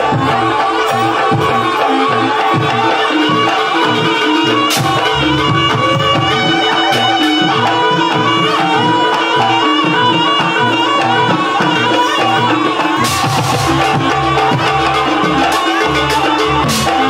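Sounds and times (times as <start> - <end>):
hand drums beating: 0.0 - 17.0
reedy melody: 0.0 - 17.0.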